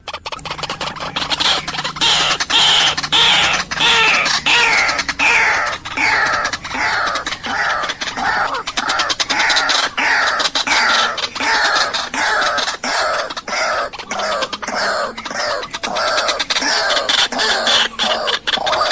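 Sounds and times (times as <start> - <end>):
bird calling hoarse notes: 0.0 - 18.9.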